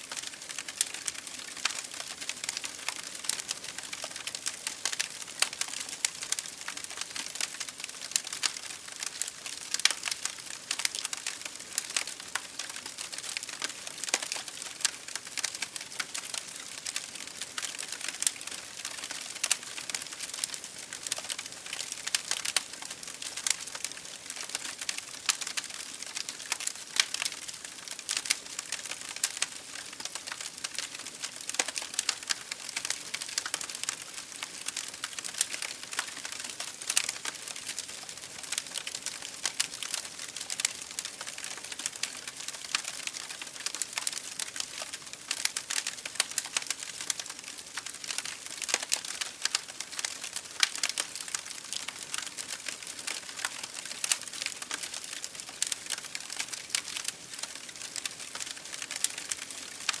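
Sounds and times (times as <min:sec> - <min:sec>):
fire crackling: 0:00.1 - 1:00.0.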